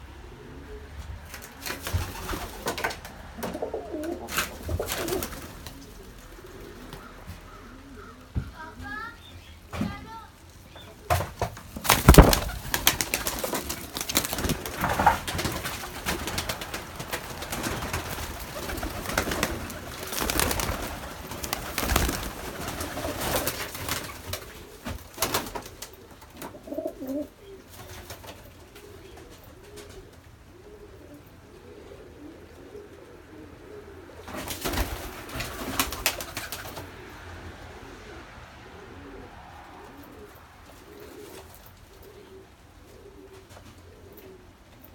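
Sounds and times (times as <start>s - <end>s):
pigeons cooing: 0.0s - 44.9s.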